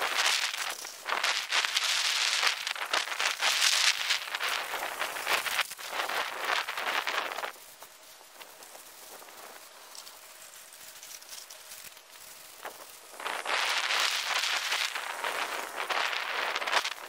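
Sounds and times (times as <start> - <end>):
hose spraying water on plants: 0.0 - 17.0.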